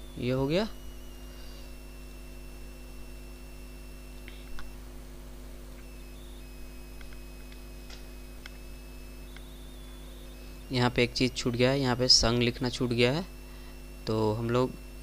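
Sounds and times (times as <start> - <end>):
electrical mains hum: 0.0 - 15.0
faint high whine: 0.0 - 15.0.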